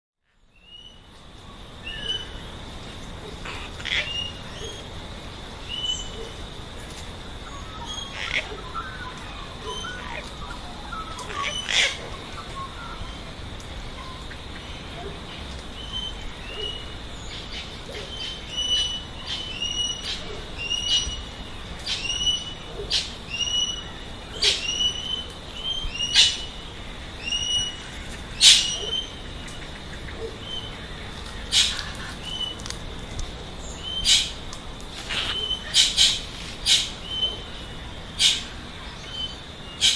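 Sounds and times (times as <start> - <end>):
birds chirping: 0.5 - 6.5, 7.3 - 32.8, 33.5 - 34.4, 35.0 - 39.9.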